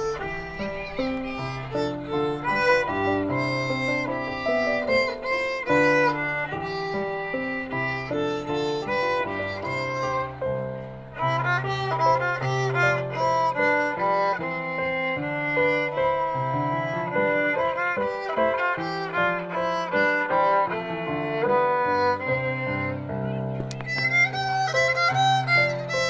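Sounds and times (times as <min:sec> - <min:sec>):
violin melody: 0:00.0 - 0:26.0.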